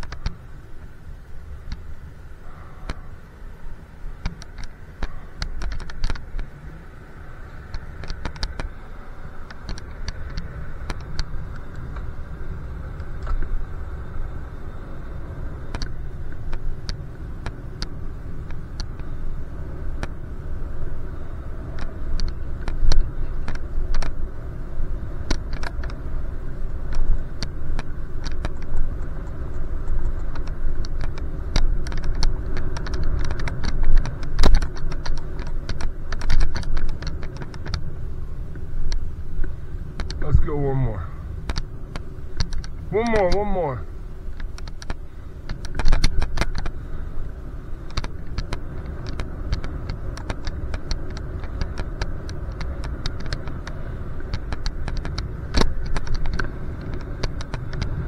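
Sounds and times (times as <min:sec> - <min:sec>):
wind and road noise rumble: 0:00.0 - 0:58.0.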